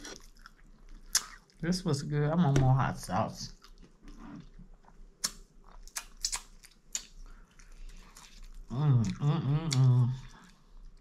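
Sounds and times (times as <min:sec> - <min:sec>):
person chewing and biting food: 0:00.0 - 0:01.6, 0:03.6 - 0:11.0.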